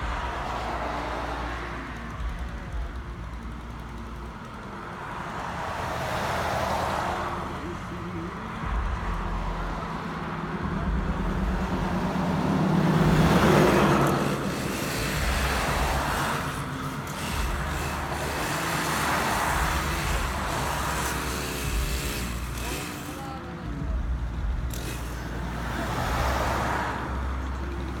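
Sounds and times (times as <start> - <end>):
low engine hum: 0.0 - 28.0
vehicles passing: 0.0 - 28.0.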